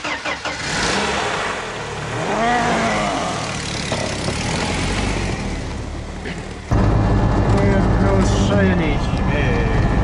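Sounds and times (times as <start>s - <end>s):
engine idling: 1.5s - 10.0s.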